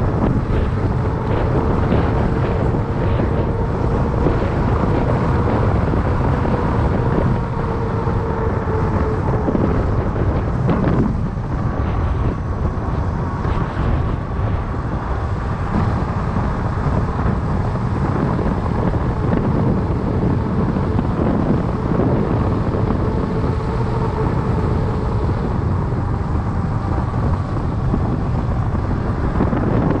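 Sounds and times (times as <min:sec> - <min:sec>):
bike tyres rolling on asphalt: 0:00.0 - 0:30.0
faint hum: 0:00.0 - 0:30.0
wind rumbling on microphone: 0:00.0 - 0:30.0.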